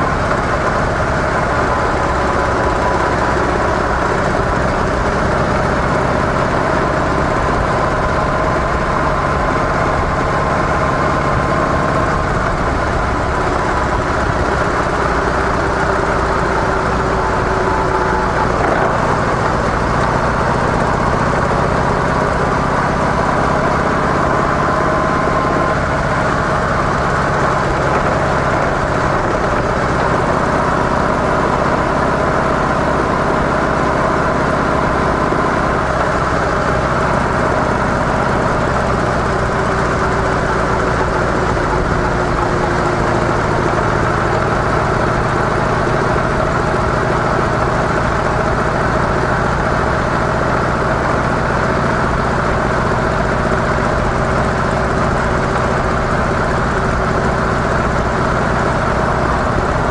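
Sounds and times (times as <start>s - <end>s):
motorcycle engine rumbling: 0.0s - 59.9s.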